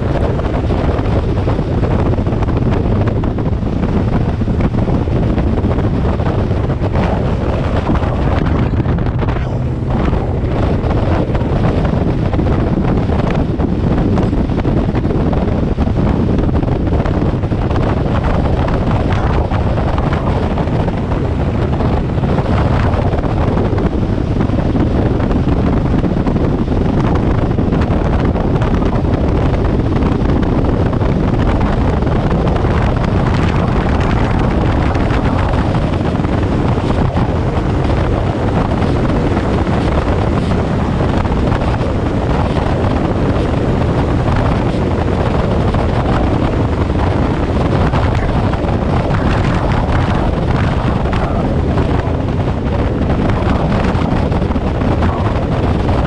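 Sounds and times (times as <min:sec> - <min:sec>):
hull running on water: 0:00.0 - 0:56.0
outboard motor drone: 0:00.0 - 0:56.0
wind buffeting microphone: 0:00.0 - 0:56.0.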